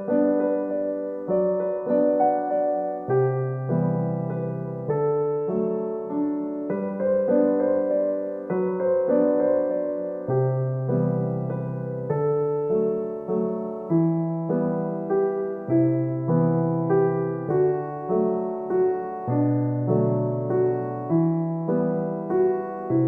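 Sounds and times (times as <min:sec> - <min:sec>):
slow solo piano piece: 0:00.0 - 0:23.0.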